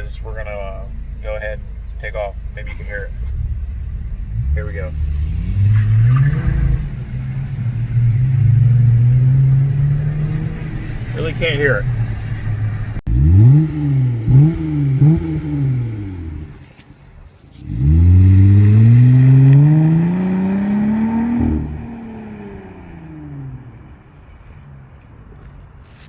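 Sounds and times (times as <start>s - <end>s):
car engine accelerating: 0.8s - 16.8s, 17.5s - 24.8s.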